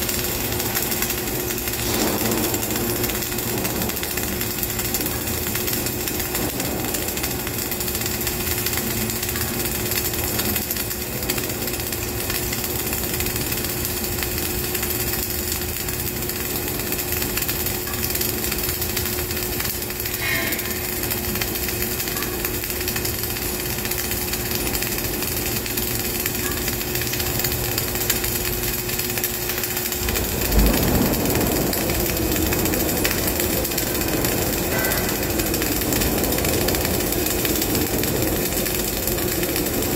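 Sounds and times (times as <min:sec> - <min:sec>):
steady hum: 0:00.0 - 0:39.9
welding arc sizzling: 0:00.0 - 0:39.9.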